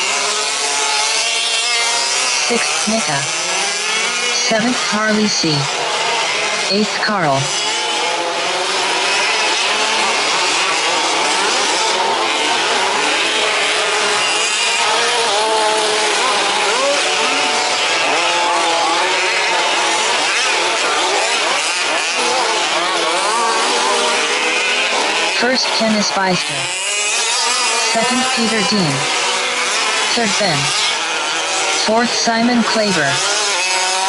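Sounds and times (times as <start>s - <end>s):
remote-control truck engines revving: 0.0s - 34.0s.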